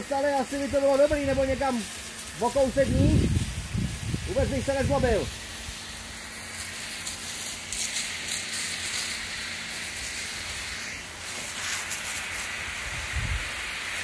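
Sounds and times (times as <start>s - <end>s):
hose nozzle spraying water: 0.0s - 14.0s.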